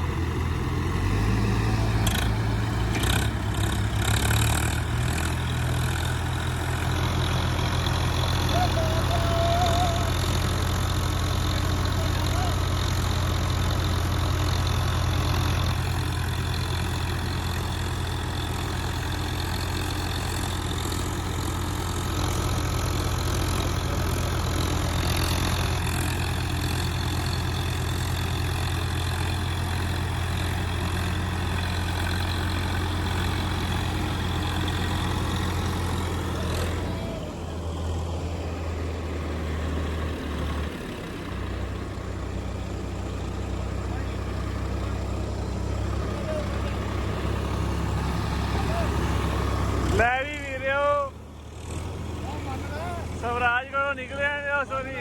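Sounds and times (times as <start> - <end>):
tractor engine droning: 0.0 - 55.0.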